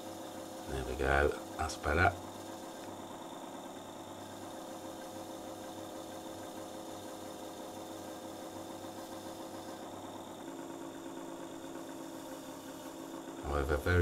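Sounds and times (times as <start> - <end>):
small electric motor humming: 0.0 - 14.0.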